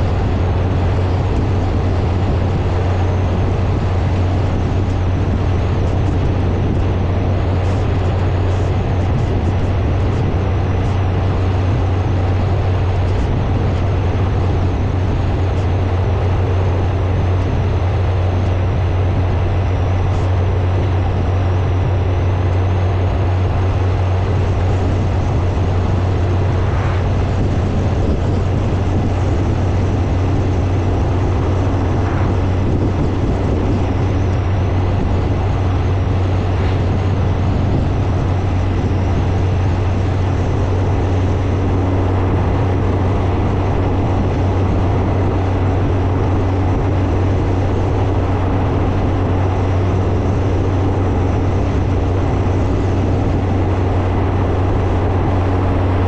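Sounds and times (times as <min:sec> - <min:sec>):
motorcycle engine hum: 0:00.0 - 0:56.0
wind rushing noise: 0:00.0 - 0:56.0.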